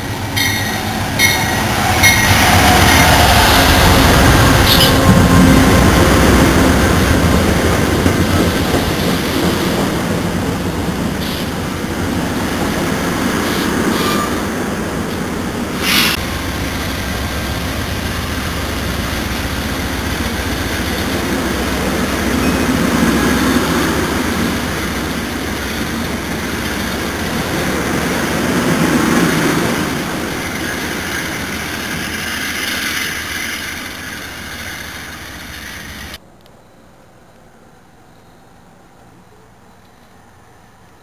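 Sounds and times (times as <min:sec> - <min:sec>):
train wheels rumbling on rail: 0:00.0 - 0:36.2.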